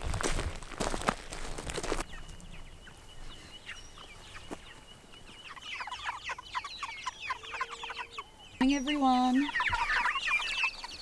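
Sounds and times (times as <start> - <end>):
chickens peeping: 1.8 - 11.0.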